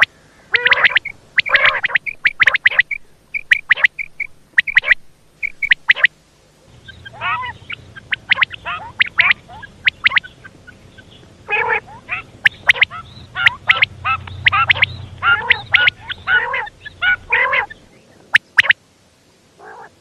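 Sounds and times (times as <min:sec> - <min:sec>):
quail calling: 0:00.0 - 0:18.8, 0:19.6 - 0:20.0
faint low hum: 0:00.0 - 0:20.0.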